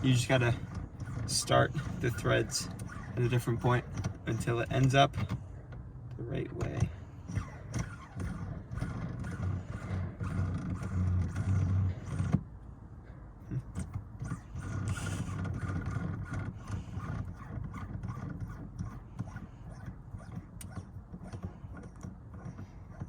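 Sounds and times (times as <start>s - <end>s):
shift knob rubbing and scraping: 0.0s - 5.5s, 6.2s - 12.5s, 13.5s - 23.0s
close handling noise: 0.0s - 23.0s.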